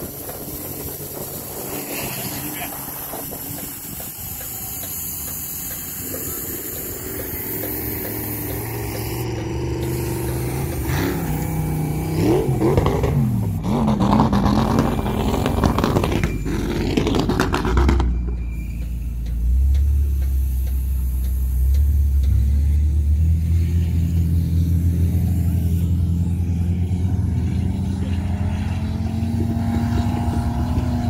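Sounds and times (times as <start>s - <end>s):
low engine rumble: 0.0s - 31.0s
off-road vehicle engine revving: 0.0s - 31.0s
tyres driving on sand: 0.0s - 31.0s.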